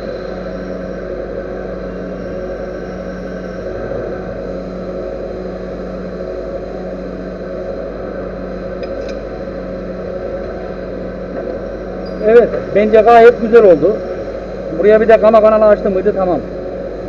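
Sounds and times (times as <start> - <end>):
machine tool humming: 0.0 - 17.0.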